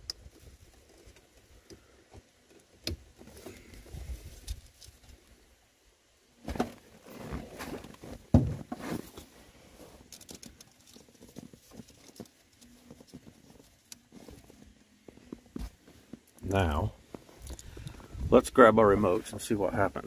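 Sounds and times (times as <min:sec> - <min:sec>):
rustling among wiring: 0:00.0 - 0:20.0.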